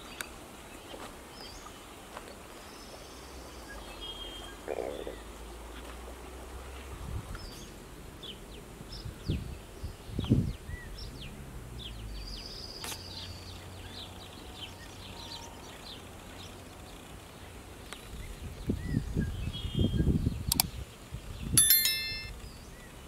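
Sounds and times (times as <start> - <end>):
small birds chirping: 0.0 - 5.7, 6.6 - 23.0.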